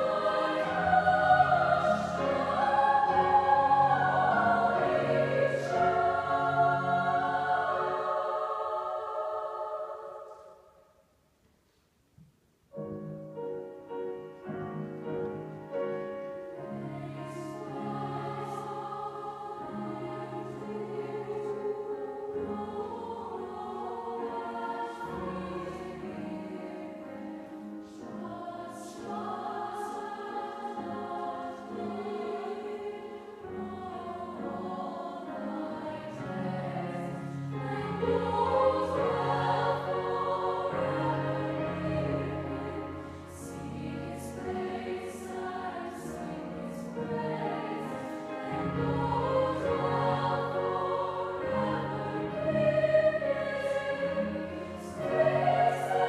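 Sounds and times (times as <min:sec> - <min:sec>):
grand piano accompaniment: 0:00.0 - 0:10.3, 0:12.7 - 0:56.0
girls' choir singing in harmony: 0:00.0 - 0:10.9, 0:13.3 - 0:56.0.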